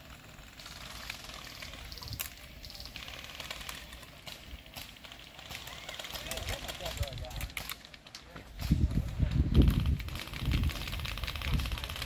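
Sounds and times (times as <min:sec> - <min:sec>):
airsoft gun rapid bursts: 0:00.0 - 0:07.9, 0:09.6 - 0:12.0.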